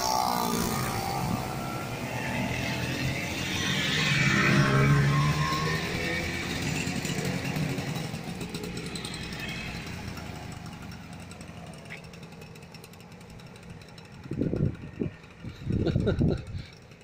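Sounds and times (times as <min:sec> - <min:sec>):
two-stroke motorcycles riding off: 0:00.0 - 0:17.0.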